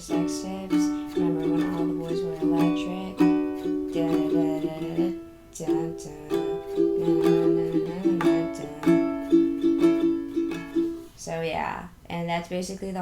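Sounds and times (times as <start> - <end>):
ukulele strumming: 0.0 - 11.2.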